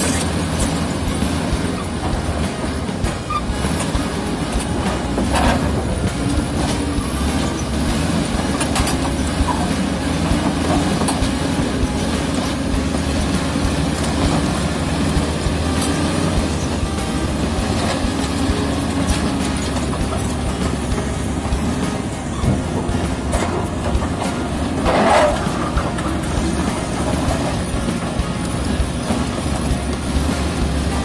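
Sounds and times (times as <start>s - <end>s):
bulldozer diesel engine under load: 0.0s - 31.0s
steel tracks clanking: 0.0s - 31.0s.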